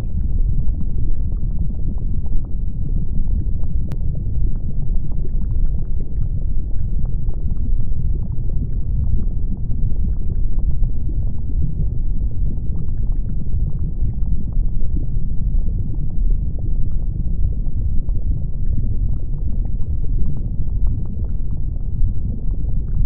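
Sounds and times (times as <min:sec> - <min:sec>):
deep volcanic rumble: 0:00.0 - 0:23.0.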